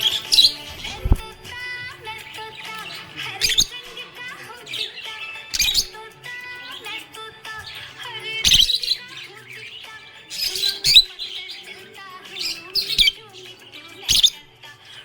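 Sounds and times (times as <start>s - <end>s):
budgerigar chirping and warbling: 0.0s - 1.4s, 2.1s - 15.0s.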